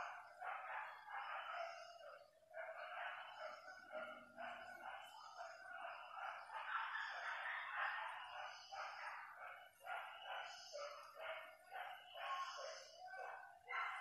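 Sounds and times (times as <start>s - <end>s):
dogs barking and baying: 0.0s - 14.0s.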